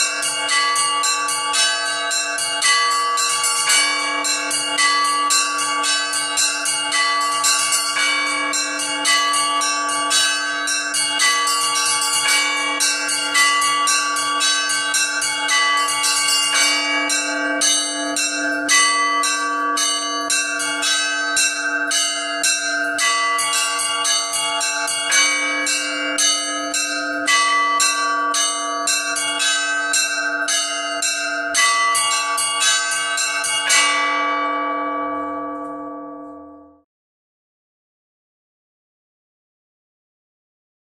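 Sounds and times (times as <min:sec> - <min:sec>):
large bell humming: 0:00.0 - 0:36.9
small church bells chiming: 0:00.0 - 0:36.9.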